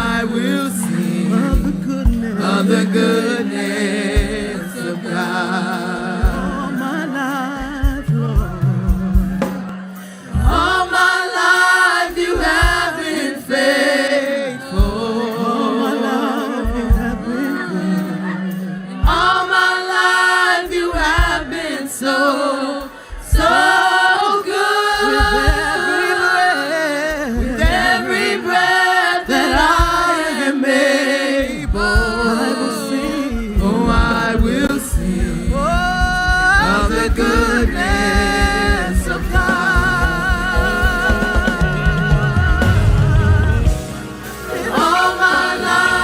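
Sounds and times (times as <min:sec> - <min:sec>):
background music: 0:00.0 - 0:46.0
group singing worship song: 0:00.0 - 0:46.0
steady drum beat: 0:00.0 - 0:46.0.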